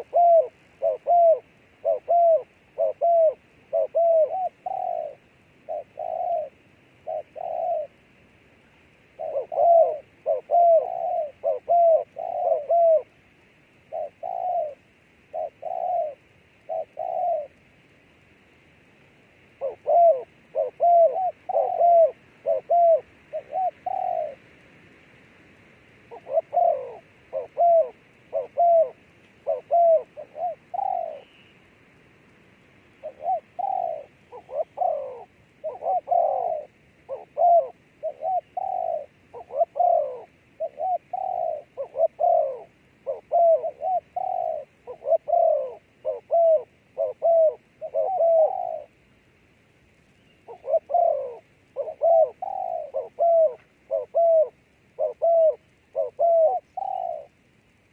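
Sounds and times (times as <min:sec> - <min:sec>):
dove cooing: 0:00.0 - 0:17.6, 0:19.5 - 0:24.6, 0:26.0 - 0:31.6, 0:33.0 - 0:49.1, 0:50.2 - 0:57.9.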